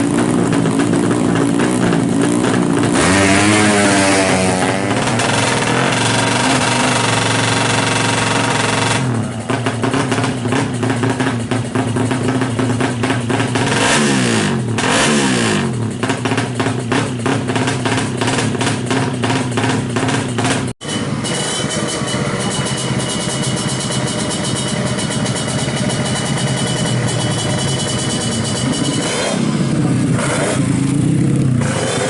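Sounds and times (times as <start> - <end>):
motorcycle engine revving and idling: 0.0 - 32.0.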